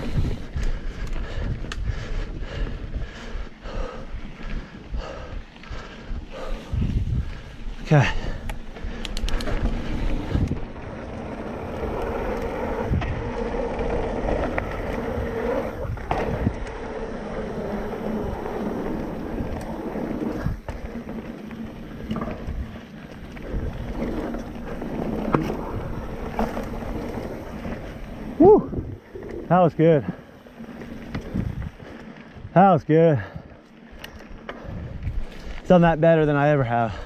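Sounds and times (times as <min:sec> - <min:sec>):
wind on microphone: 0:00.0 - 0:30.2, 0:30.8 - 0:32.5, 0:34.4 - 0:35.6
tyres rushing on dirt trail: 0:00.0 - 0:37.0.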